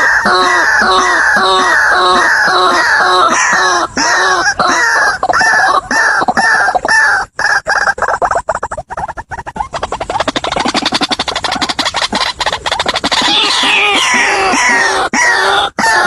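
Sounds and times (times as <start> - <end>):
waterhen croaking calls: 0.0 - 16.0.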